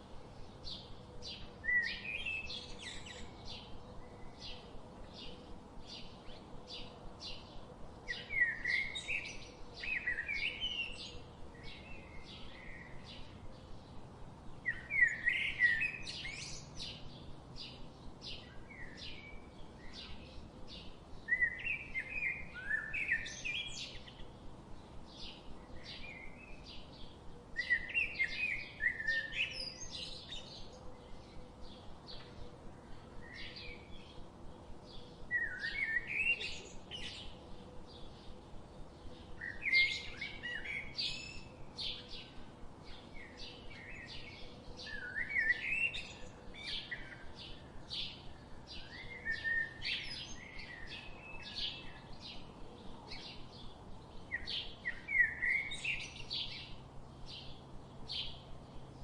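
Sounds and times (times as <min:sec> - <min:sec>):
bird warbling song: 0:00.6 - 0:14.0, 0:14.6 - 0:59.0.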